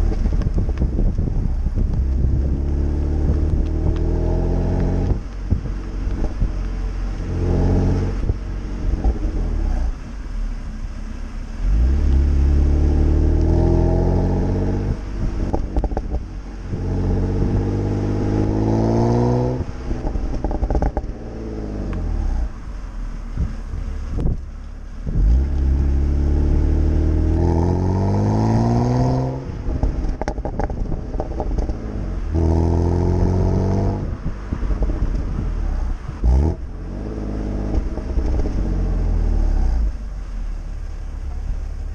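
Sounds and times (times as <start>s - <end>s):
car engine accelerating hard: 0.0s - 41.9s
exhaust crackles and pops: 0.0s - 41.9s.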